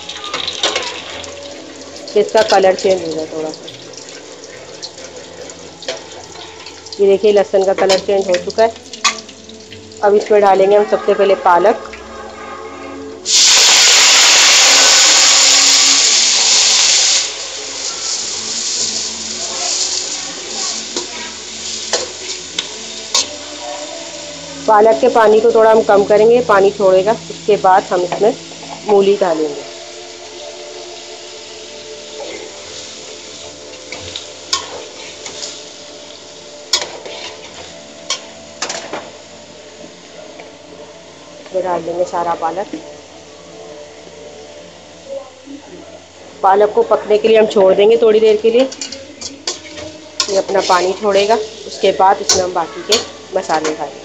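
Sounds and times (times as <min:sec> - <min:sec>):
spinach sizzling in hot oil: 0:00.0 - 0:12.2, 0:13.2 - 0:45.0, 0:46.4 - 0:54.0.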